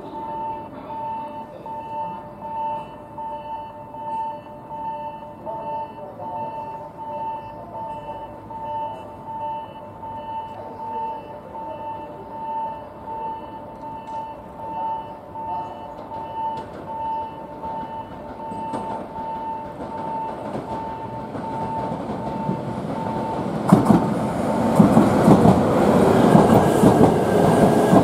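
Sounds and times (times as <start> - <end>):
electronic warning beeps: 0.0 - 23.5.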